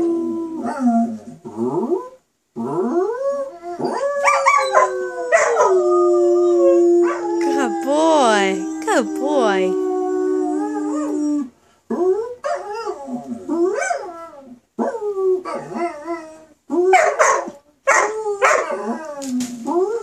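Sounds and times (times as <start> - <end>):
puppy howling: 3.0 - 11.5, 12.1 - 20.0.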